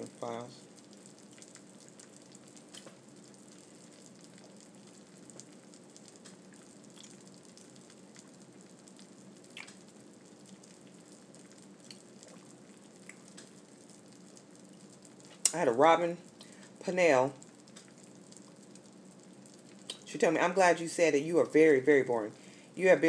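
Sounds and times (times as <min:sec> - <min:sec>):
background hiss and hum: 0:00.0 - 0:23.0.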